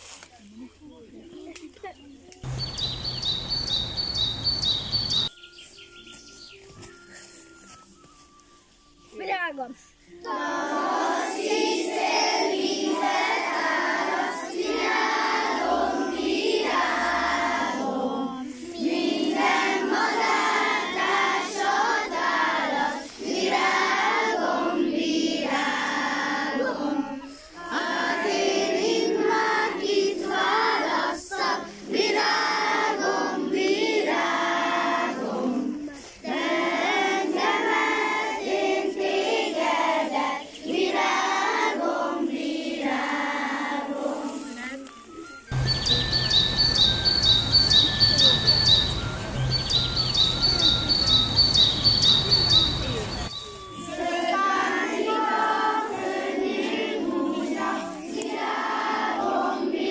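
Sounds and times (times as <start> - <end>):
young children singing: 10.0 - 44.8, 45.5 - 59.9.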